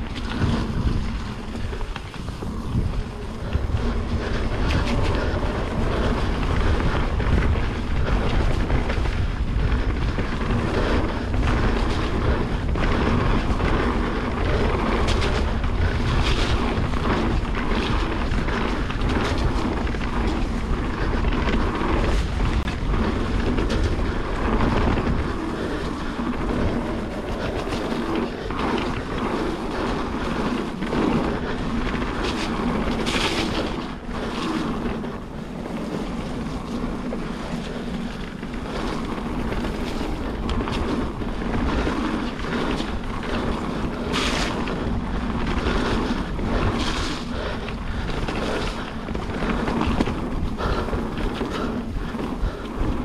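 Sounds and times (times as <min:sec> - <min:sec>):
bike knocks and rattles: 0:00.0 - 0:53.0
bike tyre noise: 0:00.0 - 0:53.0
wind rumble on microphone: 0:00.0 - 0:53.0.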